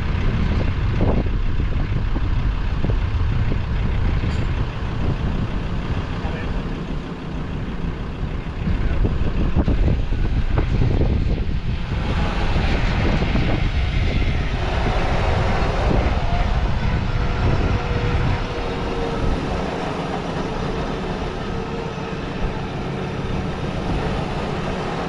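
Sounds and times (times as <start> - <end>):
vehicle engine running hard: 0.0 - 25.0.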